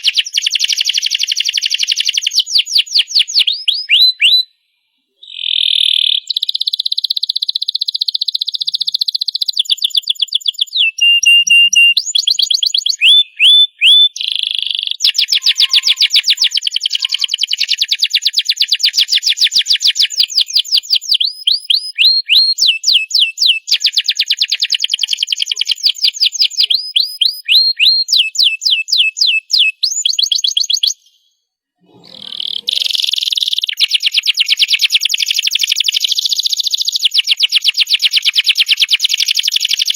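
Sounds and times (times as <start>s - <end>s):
canary singing trills: 0.0s - 4.5s, 5.2s - 39.9s.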